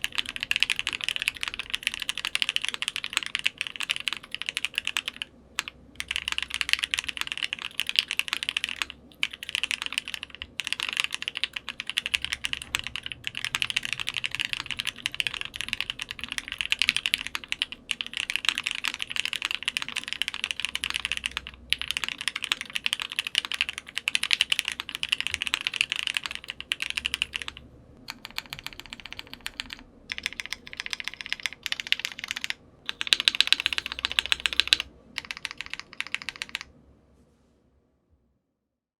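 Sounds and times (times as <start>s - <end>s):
mechanical keyboard typing: 0.0s - 36.7s.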